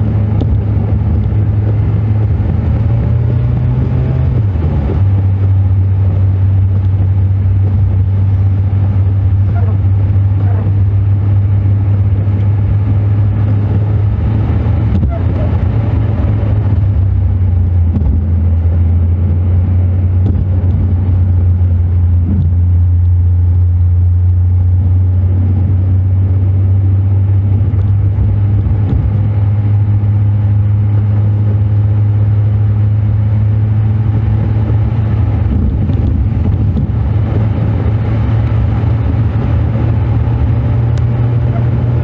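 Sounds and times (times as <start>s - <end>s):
car engine and road drone: 0.0s - 42.0s.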